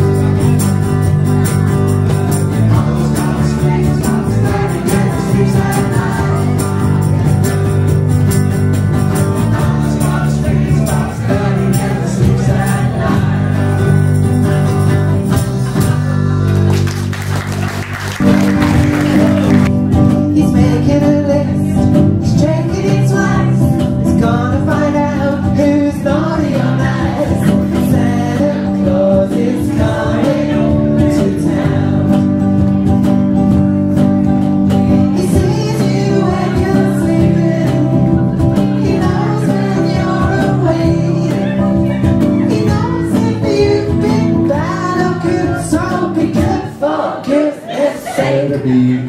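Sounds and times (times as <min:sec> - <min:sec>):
electric guitar: 0:00.0 - 0:46.7.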